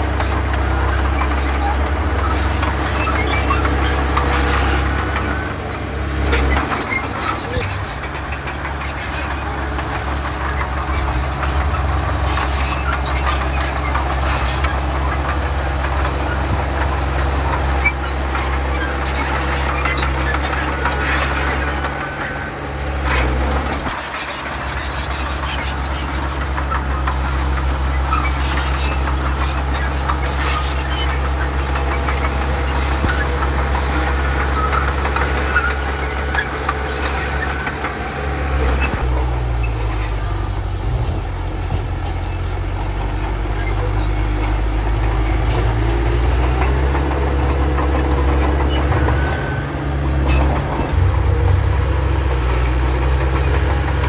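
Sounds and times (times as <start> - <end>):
bulldozer diesel engine running: 0.0 - 54.0
steel tracks squealing and clanking: 0.0 - 54.0.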